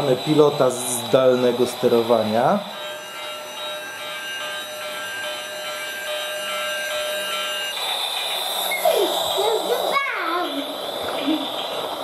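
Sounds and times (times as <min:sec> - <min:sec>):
toy train motor whirring: 0:00.0 - 0:12.0
toy train wheels rattling on track: 0:00.0 - 0:12.0.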